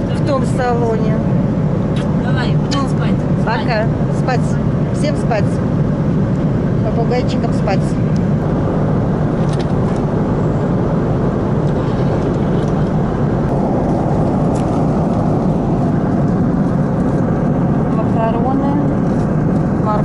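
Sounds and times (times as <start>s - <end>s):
airliner cabin noise: 0.0s - 20.0s.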